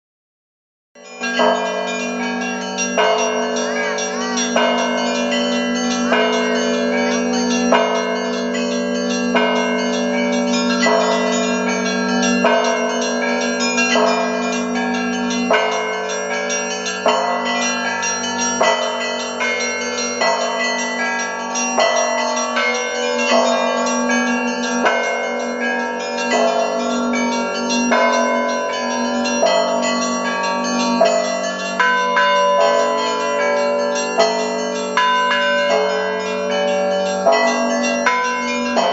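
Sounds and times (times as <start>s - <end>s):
small church bells struck: 1.0s - 38.9s
large bells humming: 1.2s - 38.9s.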